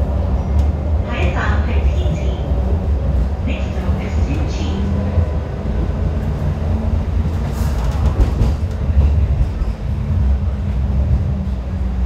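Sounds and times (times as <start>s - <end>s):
light rail car rumble: 0.0s - 12.0s.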